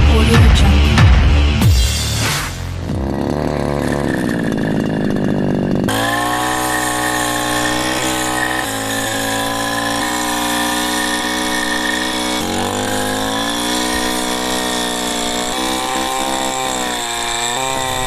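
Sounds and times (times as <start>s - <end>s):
brush cutter engine cutting: 0.0s - 18.0s.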